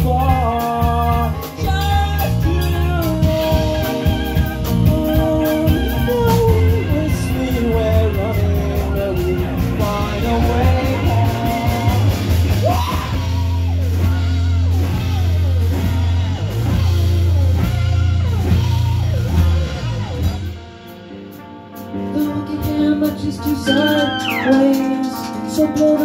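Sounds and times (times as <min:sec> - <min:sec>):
heavy low bass: 0:00.0 - 0:21.4
falling sliding guitar notes: 0:00.0 - 0:26.0
live rock band: 0:00.0 - 0:26.0.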